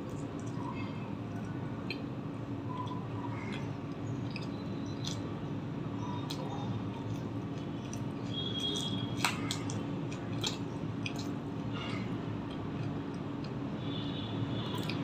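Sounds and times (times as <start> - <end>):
person chewing food: 0.0 - 5.4, 6.2 - 13.7, 14.6 - 15.0.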